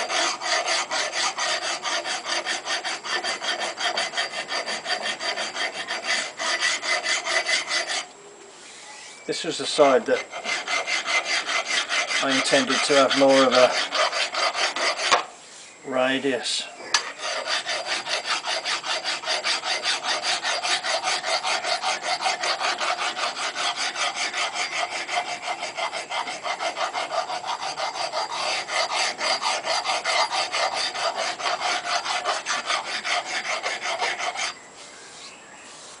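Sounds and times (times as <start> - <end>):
hand file scraping steel: 0.0 - 8.1, 9.4 - 15.3, 16.9 - 36.0.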